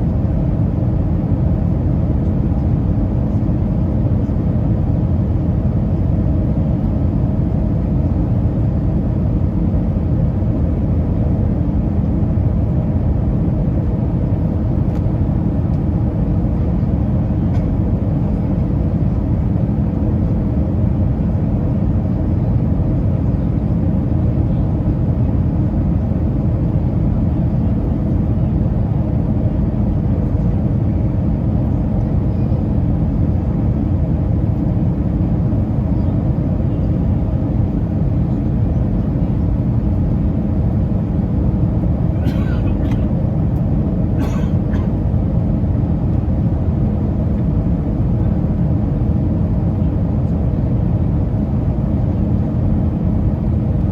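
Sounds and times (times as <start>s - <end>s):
jet engine cabin drone: 0.0s - 53.9s.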